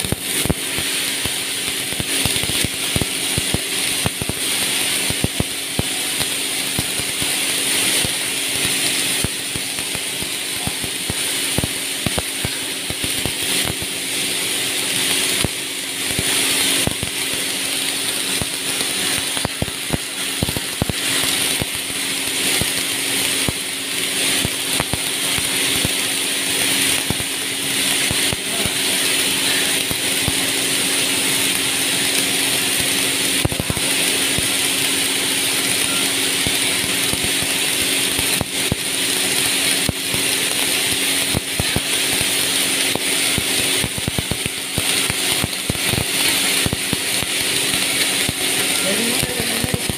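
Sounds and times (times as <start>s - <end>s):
welding clicks and crackles: 0.0s - 49.9s
welding machine hum and hiss: 0.0s - 49.9s.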